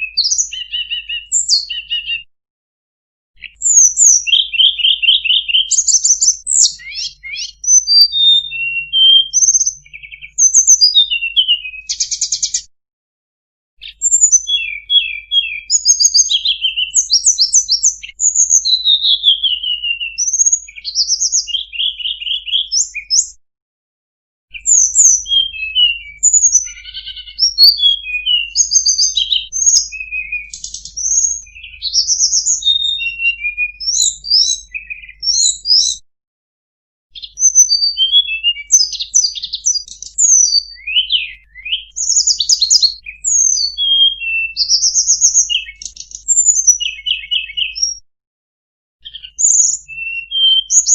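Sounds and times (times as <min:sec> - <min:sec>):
songbird singing: 0:00.0 - 0:02.3, 0:03.4 - 0:12.7, 0:13.8 - 0:23.4, 0:24.5 - 0:36.0, 0:37.2 - 0:48.0, 0:49.0 - 0:50.9.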